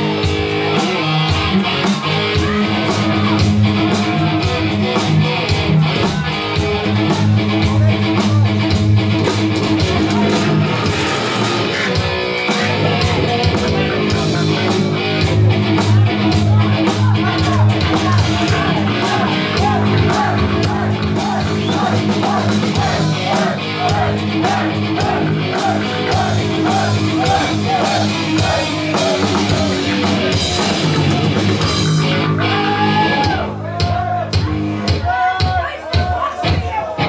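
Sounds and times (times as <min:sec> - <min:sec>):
repeating guitar riff: 0:00.0 - 0:33.1
drum kit pounding: 0:00.0 - 0:37.0
live rock band: 0:00.0 - 0:37.0.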